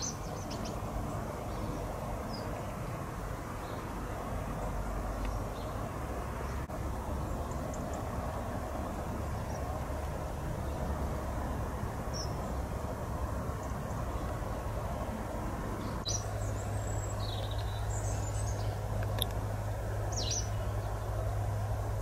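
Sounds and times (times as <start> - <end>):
outdoor background rumble: 0.0 - 22.0.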